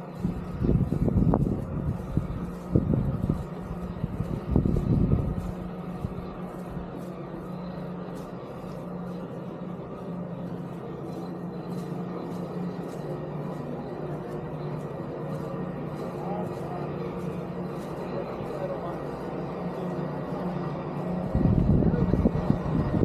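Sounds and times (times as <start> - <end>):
vehicle humming: 0.0 - 23.0.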